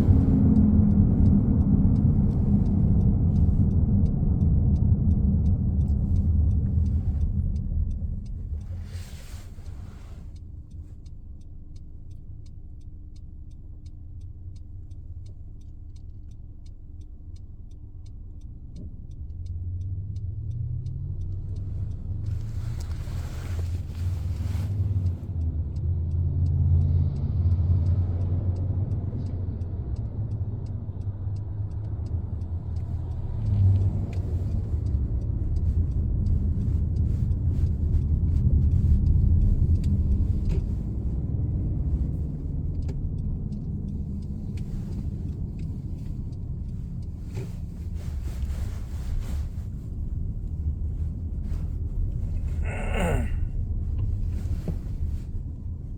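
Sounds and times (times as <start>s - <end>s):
car humming drone: 0.0s - 55.9s.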